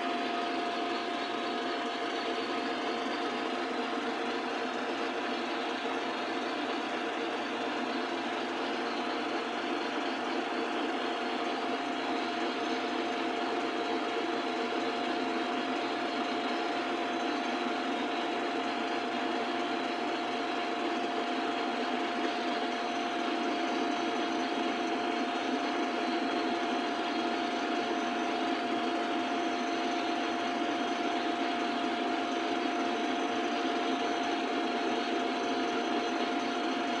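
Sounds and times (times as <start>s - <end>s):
motor whirring steadily: 0.0s - 37.0s.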